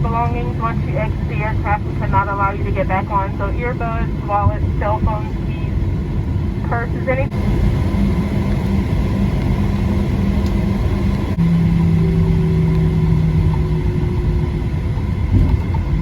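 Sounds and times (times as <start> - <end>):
air system hum: 0.0 - 16.0
aircraft cabin rumble: 0.0 - 16.0.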